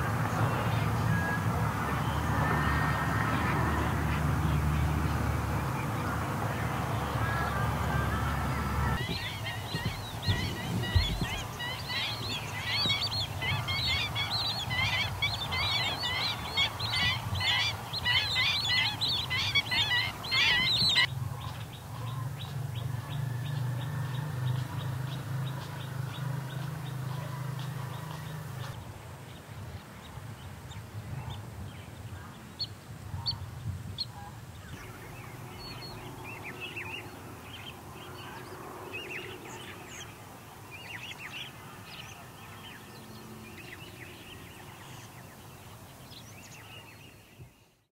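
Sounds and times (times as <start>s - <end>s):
flock of birds calling: 0.0s - 28.8s, 33.1s - 47.1s.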